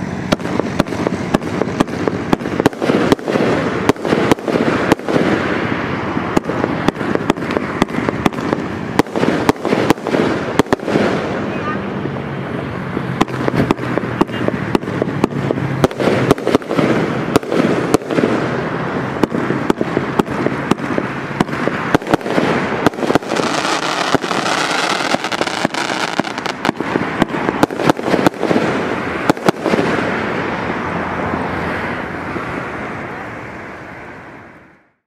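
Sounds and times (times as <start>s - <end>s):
firework bangs: 0.0s - 33.5s
firework crackle and hiss: 0.0s - 34.8s.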